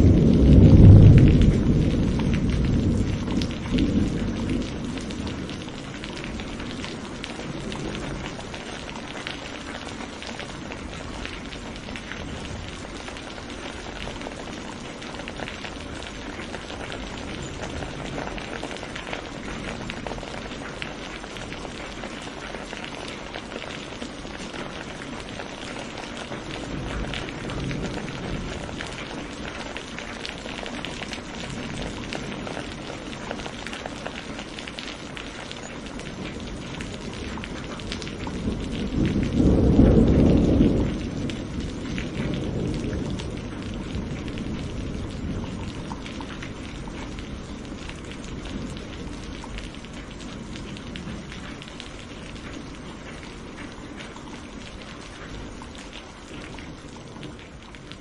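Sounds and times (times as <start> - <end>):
rolling thunder: 0.0 - 23.3, 24.6 - 54.2
steady rain: 0.0 - 58.0.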